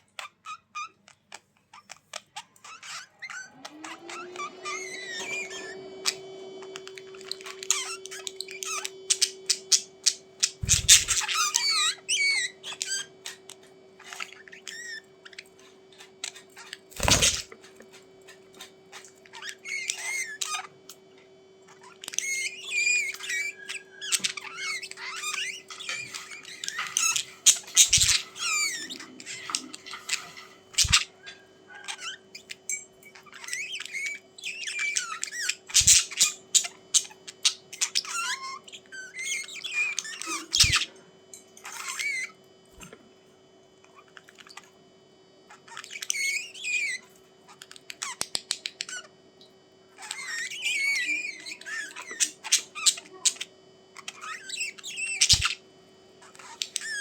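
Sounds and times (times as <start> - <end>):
budgies chirping and warbling: 0.0 - 41.0, 41.6 - 43.0, 43.8 - 44.8, 45.5 - 49.2, 49.9 - 57.0.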